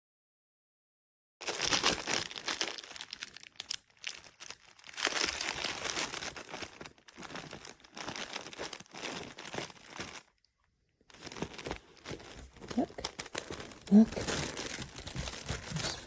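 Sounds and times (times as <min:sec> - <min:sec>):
fabric toy crinkling and rustling: 0:01.4 - 0:16.0.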